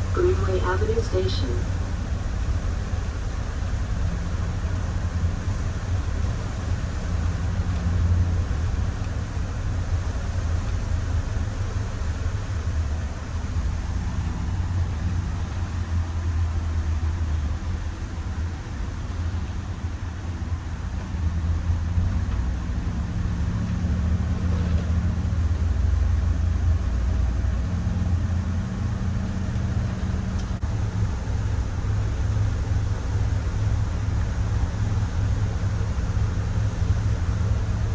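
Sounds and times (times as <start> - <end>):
bus engine drone: 0.0 - 37.9
road noise: 0.0 - 37.9.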